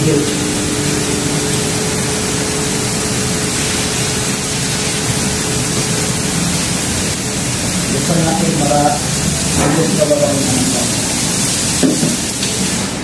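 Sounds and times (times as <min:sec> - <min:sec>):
faint steady hum: 0:00.0 - 0:12.6
loud fan rushing noise: 0:00.0 - 0:13.0.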